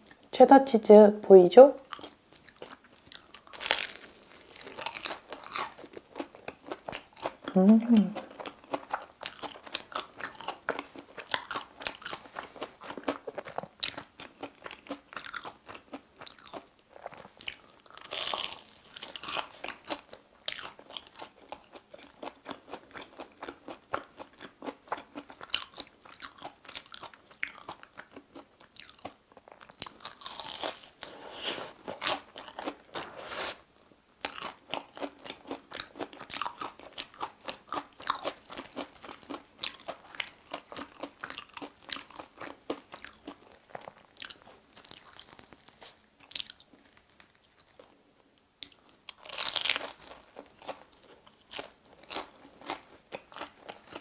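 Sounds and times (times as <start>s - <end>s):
crunching and chewing crispy food: 1.8s - 33.6s, 34.2s - 54.0s.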